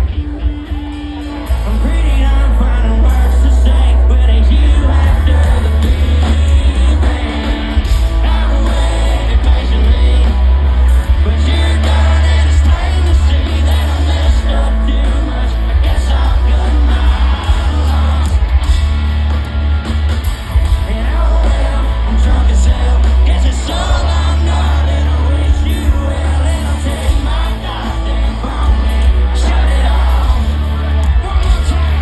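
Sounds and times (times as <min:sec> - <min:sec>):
lead singer singing: 0:00.0 - 0:19.8, 0:20.5 - 0:32.0
country-rock band playing live: 0:00.0 - 0:32.0
crowd shouting: 0:00.0 - 0:32.0.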